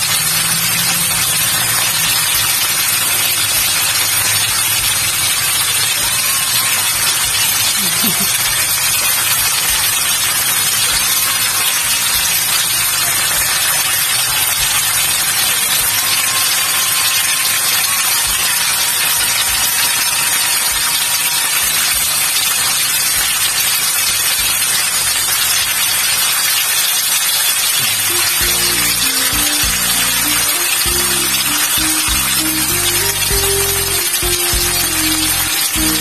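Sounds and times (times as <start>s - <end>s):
fish frying in hot oil: 0.0s - 36.0s.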